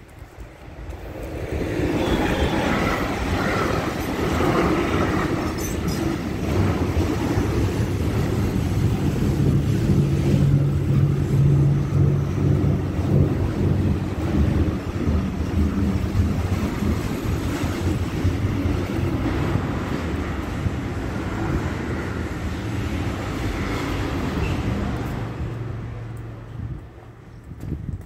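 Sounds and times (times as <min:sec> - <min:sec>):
train passing close by: 0:00.0 - 0:27.9.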